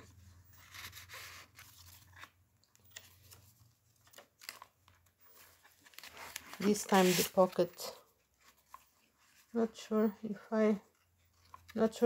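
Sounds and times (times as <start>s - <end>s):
paper pages rustling: 0.0s - 9.7s, 10.9s - 12.0s.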